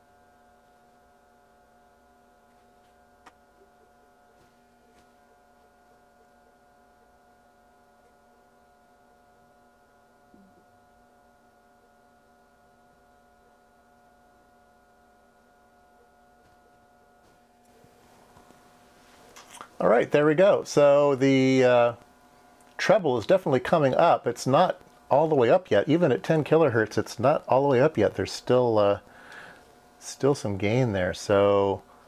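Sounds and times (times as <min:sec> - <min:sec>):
faint electrical mains hum: 0:00.0 - 0:32.0.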